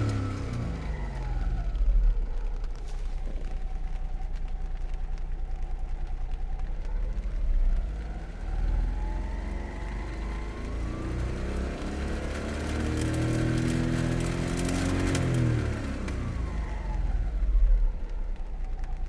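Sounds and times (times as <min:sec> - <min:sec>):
engine idling and revving: 0:00.0 - 0:19.0.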